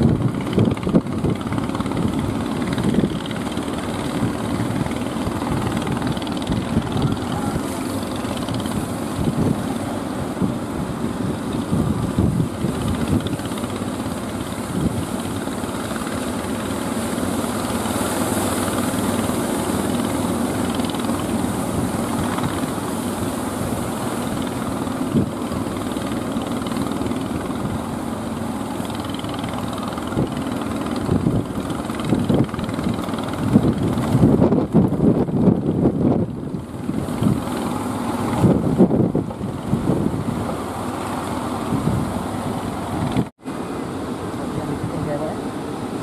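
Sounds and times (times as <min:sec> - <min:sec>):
wind buffeting microphone: 0:00.0 - 0:43.3
boat engines running: 0:00.0 - 0:46.0
surf rushing: 0:00.0 - 0:46.0.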